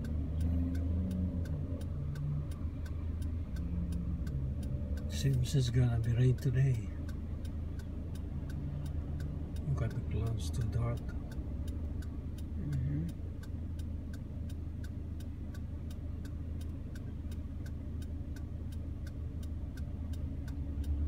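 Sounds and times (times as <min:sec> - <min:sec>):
idling engine hum: 0:00.0 - 0:21.0
turn signal ticking: 0:00.0 - 0:21.0.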